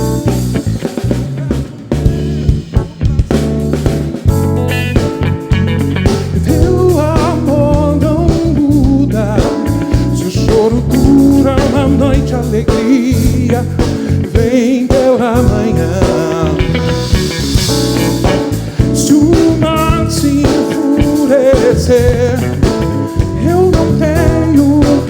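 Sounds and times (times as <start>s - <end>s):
sliding melody line: 0.0s - 13.7s, 14.3s - 25.0s
bass line: 0.0s - 25.0s
drum kit hits: 0.0s - 25.0s
guitar: 0.0s - 25.0s.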